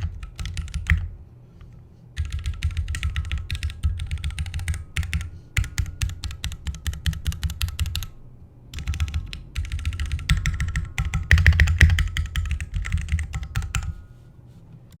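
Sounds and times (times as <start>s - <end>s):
mechanical keyboard typing: 0.0s - 1.1s, 2.2s - 14.0s.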